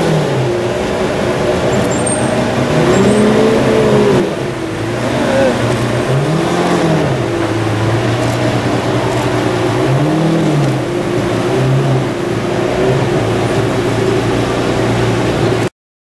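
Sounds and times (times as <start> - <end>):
car engine idling with throttle blip: 0.0 - 15.7.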